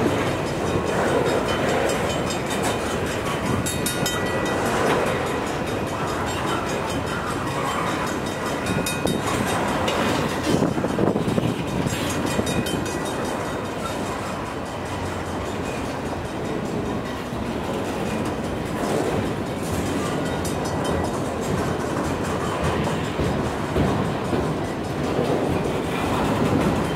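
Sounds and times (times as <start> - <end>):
freight train wheels rumbling: 0.0 - 26.9
wheels clacking on rails: 0.0 - 26.9
wind noise on microphone: 0.0 - 26.9.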